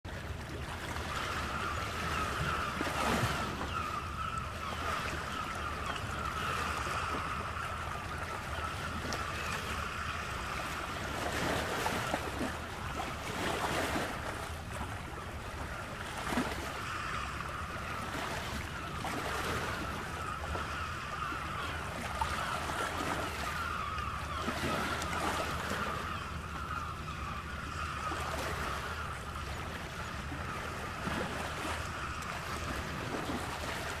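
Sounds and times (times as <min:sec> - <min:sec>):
ocean surf washing: 0:00.7 - 0:34.0.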